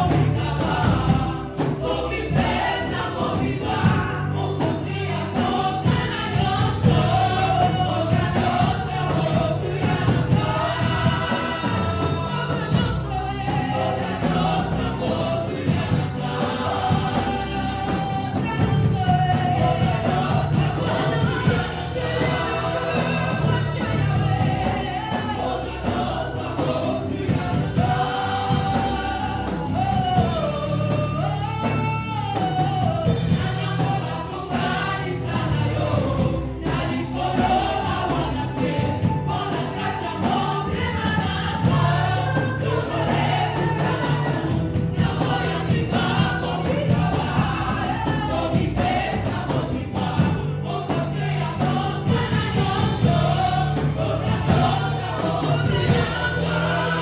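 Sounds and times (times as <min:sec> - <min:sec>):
band with bass and percussion: 0:00.0 - 0:57.0
choir singing: 0:00.0 - 0:57.0.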